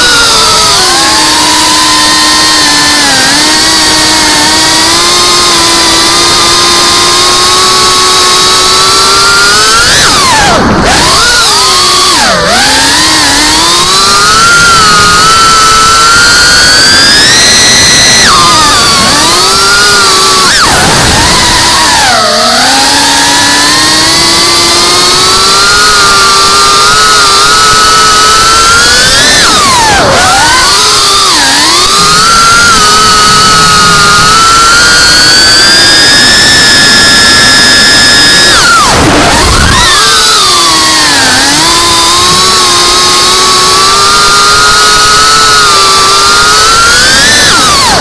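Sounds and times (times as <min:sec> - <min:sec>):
drone motors whining: 0:00.0 - 0:48.0.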